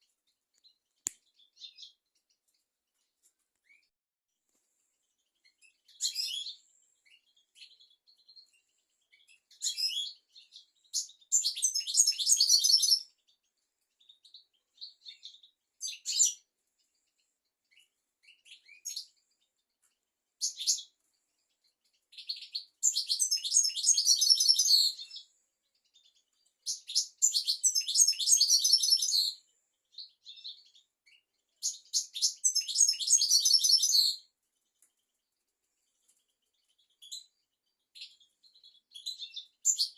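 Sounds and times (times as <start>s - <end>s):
finch singing: 0.0s - 2.6s, 5.1s - 34.9s, 36.0s - 39.9s.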